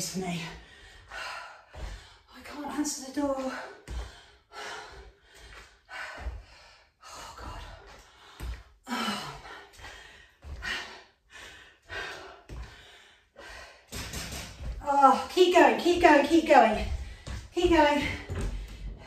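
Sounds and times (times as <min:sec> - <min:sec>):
woman breathing heavily: 0:00.3 - 0:15.4, 0:16.0 - 0:19.0.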